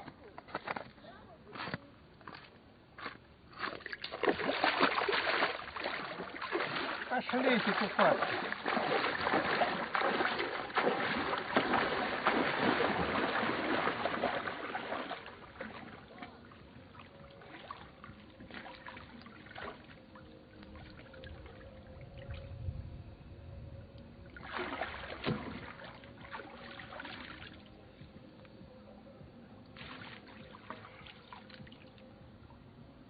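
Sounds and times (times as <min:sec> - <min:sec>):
water splashing and sloshing: 0:01.6 - 0:22.7, 0:24.2 - 0:28.6, 0:29.6 - 0:33.0.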